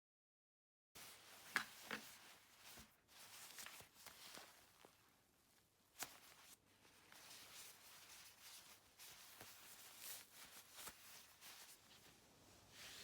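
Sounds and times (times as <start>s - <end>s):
rustling and handling noises: 1.0s - 13.0s.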